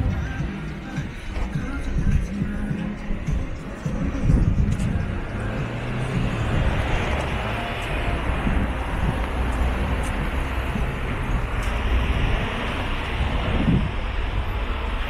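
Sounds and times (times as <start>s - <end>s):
car engines running: 0.0s - 15.0s
tyres on the road: 0.0s - 15.0s.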